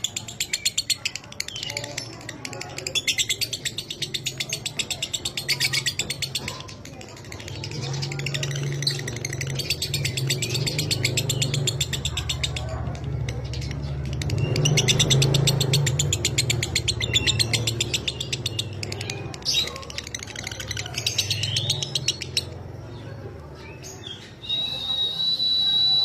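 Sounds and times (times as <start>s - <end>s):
bird chattering trills: 0.0s - 23.0s.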